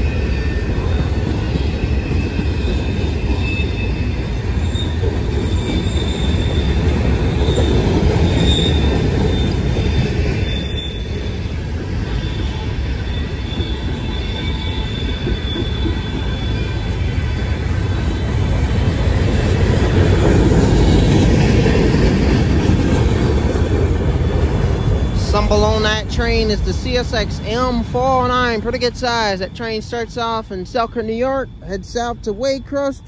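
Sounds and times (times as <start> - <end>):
freight train wheels rumbling: 0.0 - 33.0
high wheel squeals: 0.0 - 33.0.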